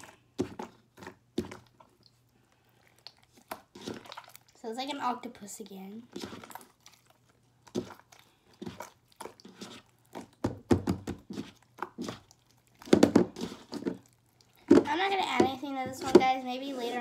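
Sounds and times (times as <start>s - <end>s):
hands squishing sticky slime: 0.0s - 17.0s.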